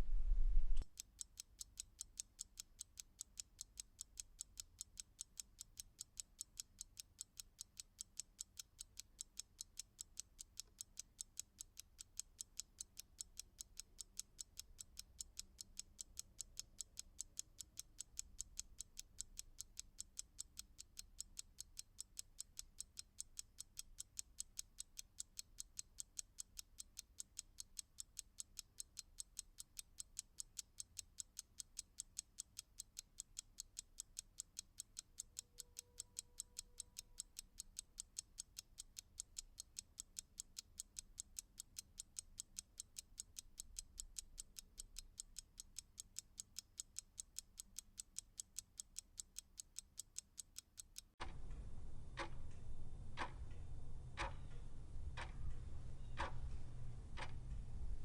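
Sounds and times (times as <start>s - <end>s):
clock ticking: 0.9s - 57.6s.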